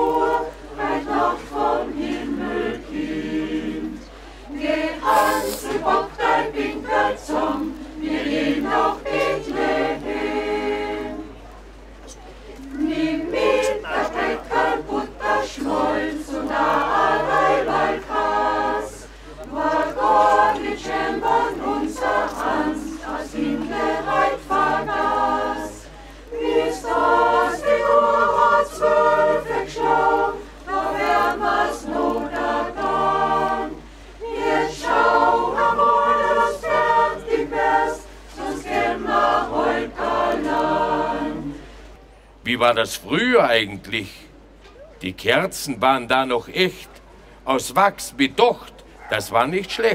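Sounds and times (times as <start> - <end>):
mixed choir singing a cappella: 0.0 - 11.5, 12.6 - 42.0.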